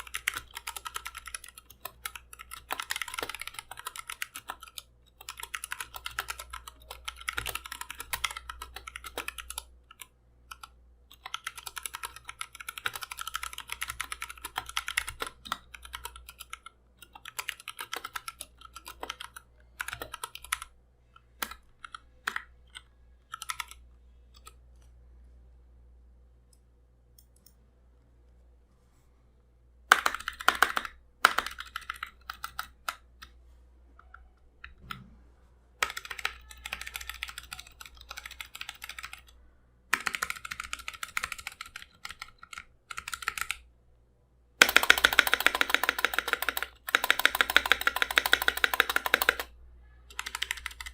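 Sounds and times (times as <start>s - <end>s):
mechanical keyboard typing: 0.0s - 24.6s, 29.9s - 33.2s, 35.8s - 39.3s, 39.9s - 43.7s, 44.6s - 49.5s, 50.1s - 50.9s.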